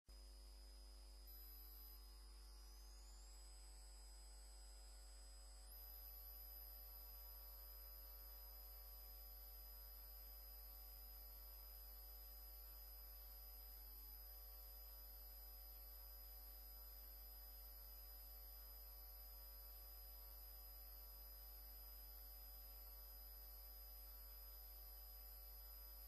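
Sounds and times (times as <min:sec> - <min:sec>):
high-pitched whine tones: 0:01.0 - 0:26.0.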